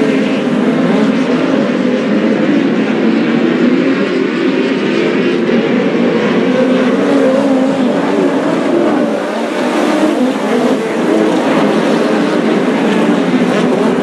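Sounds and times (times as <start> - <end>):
race car engines: 0.0 - 14.0.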